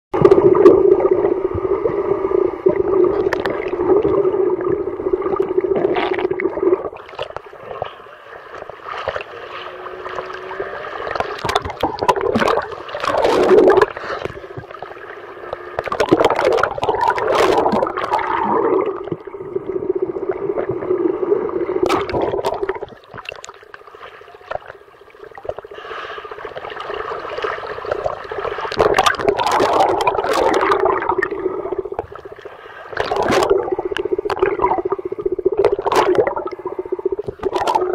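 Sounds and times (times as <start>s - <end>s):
boat engine droning underwater: 0.2s - 37.9s
water splashing and gurgling: 0.2s - 37.9s.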